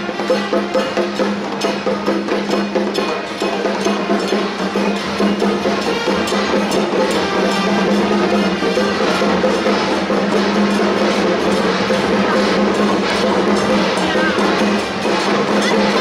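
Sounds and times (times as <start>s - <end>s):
metallic beats: 0.0s - 16.0s
woodblock strikes: 0.0s - 16.0s.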